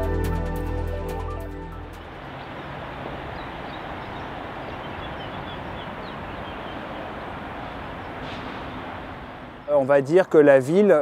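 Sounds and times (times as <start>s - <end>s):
motorway traffic hum: 1.6s - 11.0s
small birds chirping: 2.0s - 10.9s.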